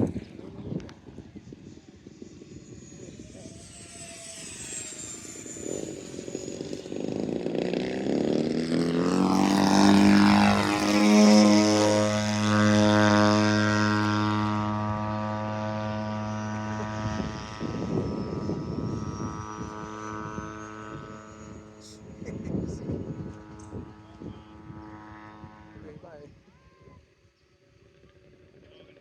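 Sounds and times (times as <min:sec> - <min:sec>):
model airplane engine buzzing: 0:00.0 - 0:29.0
wind gusts: 0:00.0 - 0:29.0.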